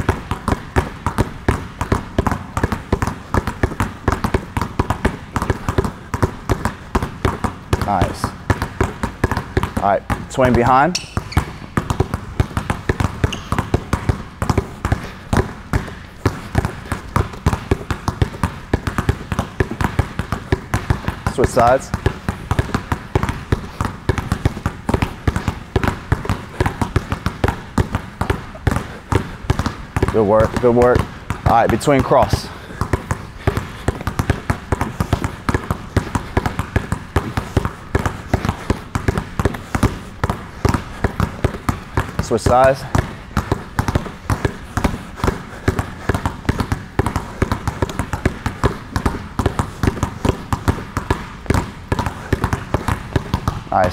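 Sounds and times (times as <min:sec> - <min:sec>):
basketballs dribbled on hardwood: 0:00.0 - 0:53.9.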